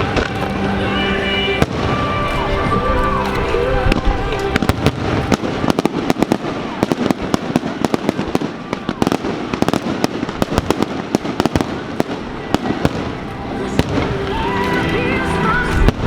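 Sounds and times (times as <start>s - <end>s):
fireworks cracking and banging: 0.0s - 16.0s.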